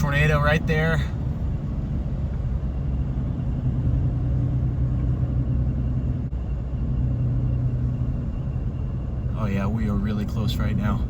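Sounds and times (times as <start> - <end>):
car engine and tyres drone: 0.0 - 11.0.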